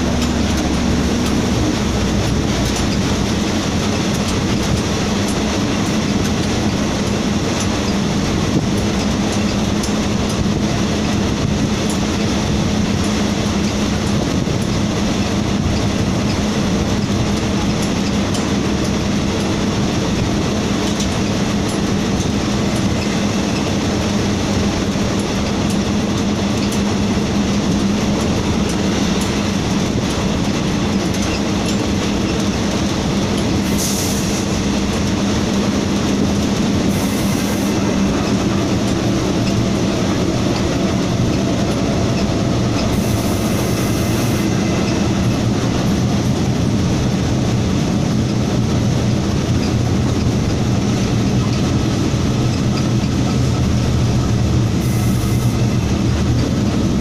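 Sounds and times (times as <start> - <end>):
diesel locomotive engine droning: 0.0 - 57.0
train wheels rolling on rails: 0.0 - 57.0.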